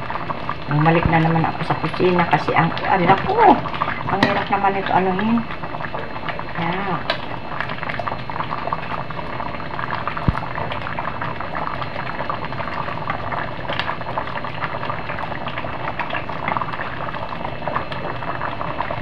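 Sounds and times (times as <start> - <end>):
stew bubbling in a pot: 0.0 - 19.0.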